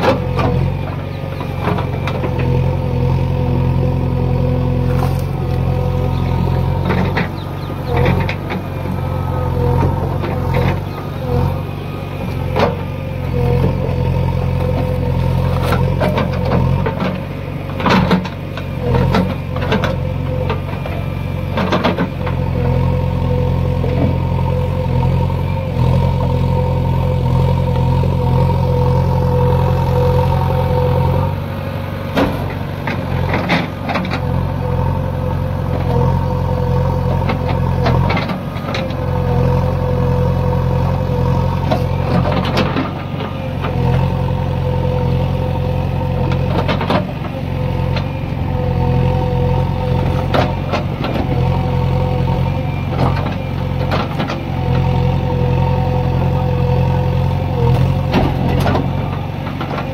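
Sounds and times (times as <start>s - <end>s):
diesel engine running under load: 0.0s - 59.9s
engine whine: 0.0s - 59.9s.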